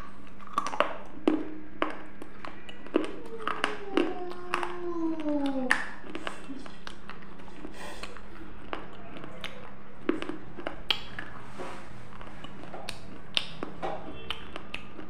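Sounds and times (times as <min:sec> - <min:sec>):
person chewing with crunches: 0:00.0 - 0:15.0.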